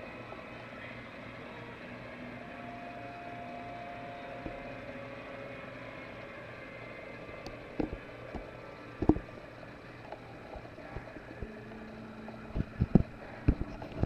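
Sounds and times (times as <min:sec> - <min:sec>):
television sound hiss and hum: 0:00.0 - 0:14.0.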